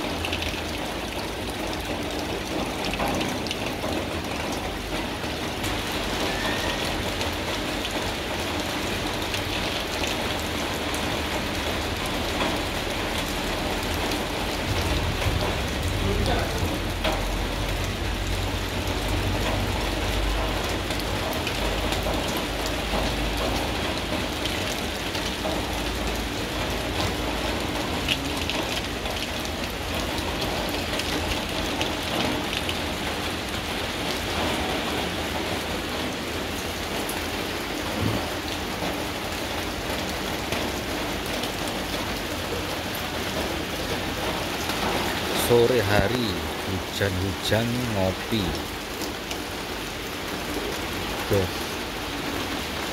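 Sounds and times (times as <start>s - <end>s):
rain falling on leaves: 0.0s - 52.9s.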